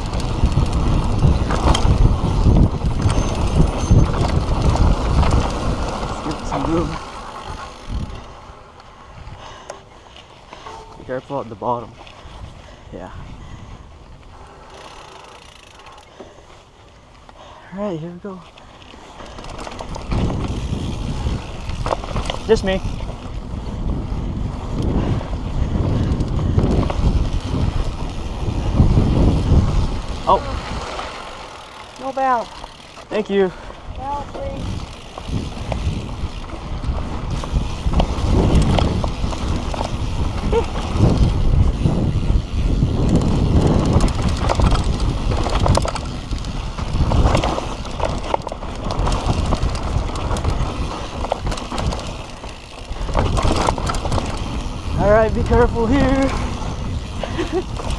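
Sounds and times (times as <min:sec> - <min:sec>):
tyres rumbling on dirt: 0:00.0 - 0:08.7, 0:19.0 - 0:57.9
wind buffeting microphone: 0:00.0 - 0:15.0, 0:19.1 - 0:57.9
bike clicks: 0:00.0 - 0:57.9.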